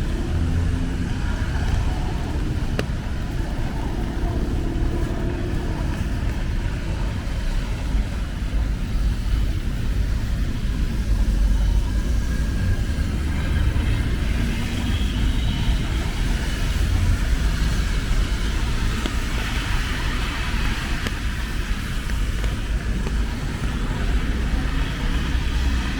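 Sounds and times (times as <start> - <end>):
city street traffic rumble: 0.0 - 25.9.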